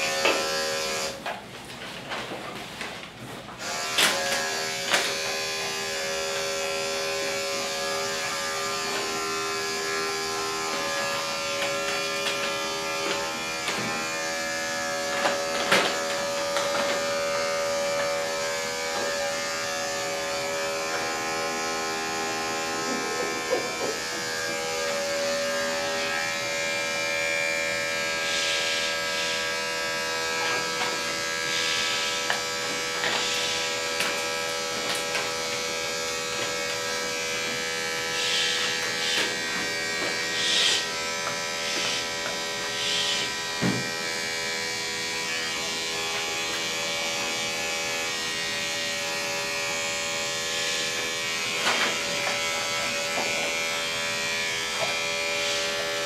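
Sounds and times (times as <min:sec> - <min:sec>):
electric clippers buzzing: 0:00.0 - 0:01.3, 0:03.6 - 0:56.0.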